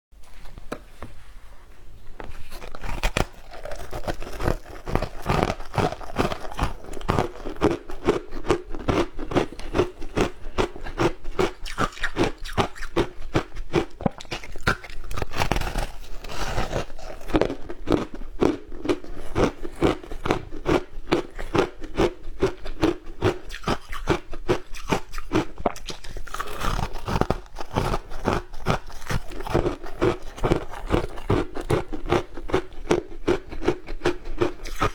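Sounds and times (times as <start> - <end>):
shaved ice crunching while chewed: 2.4 - 34.9.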